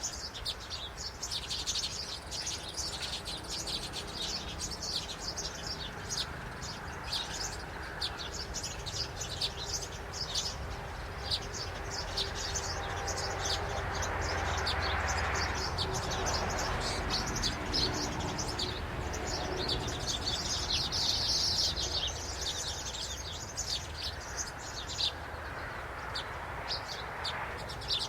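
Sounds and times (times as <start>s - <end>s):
birds chirping rapidly: 0.0s - 28.0s.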